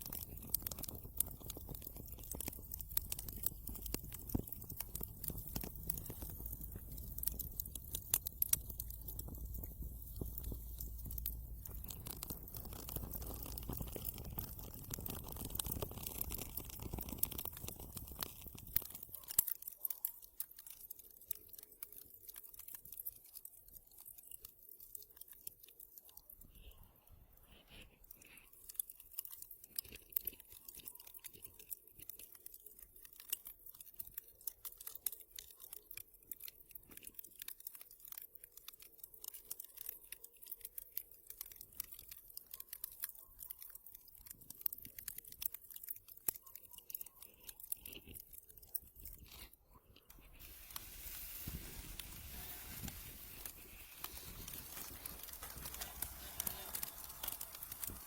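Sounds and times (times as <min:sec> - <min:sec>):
wood fire crackling: 0:00.0 - 0:26.2, 0:32.0 - 0:46.5, 0:50.1 - 0:58.0.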